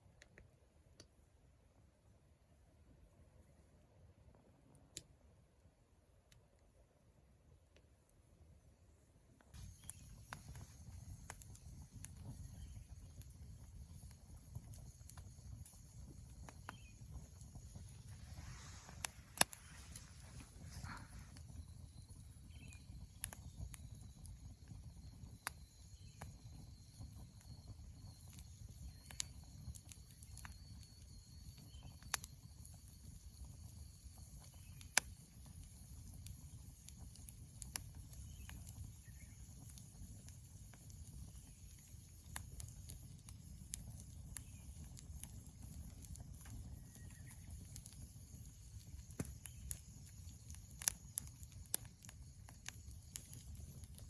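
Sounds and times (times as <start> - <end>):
low fire rumble: 8.8 - 54.0
wood fire crackling and popping: 9.4 - 54.0.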